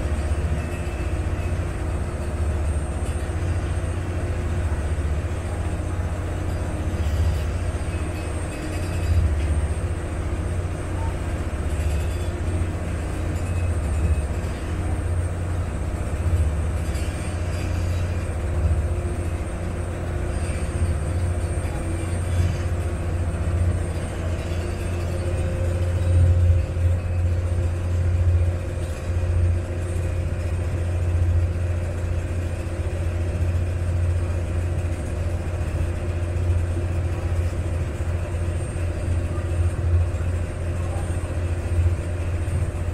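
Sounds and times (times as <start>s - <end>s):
boat engine drone: 0.0s - 42.9s.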